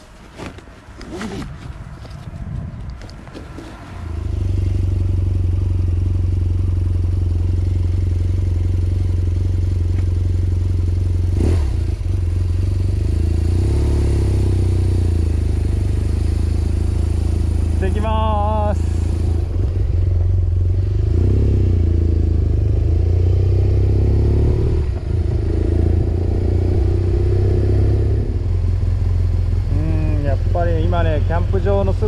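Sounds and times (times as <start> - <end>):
motorcycle engine running: 4.2 - 32.0.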